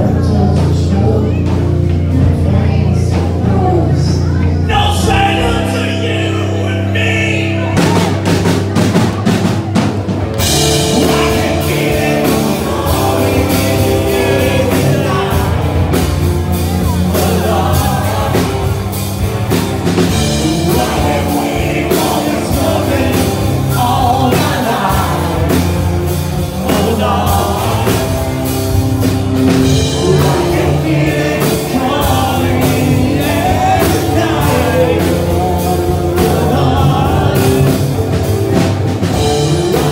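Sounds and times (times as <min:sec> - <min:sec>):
person singing: 0:00.0 - 0:09.7, 0:10.4 - 0:39.9
live rock band playing loudly: 0:00.0 - 0:39.9
drum kit hits: 0:07.7 - 0:39.9.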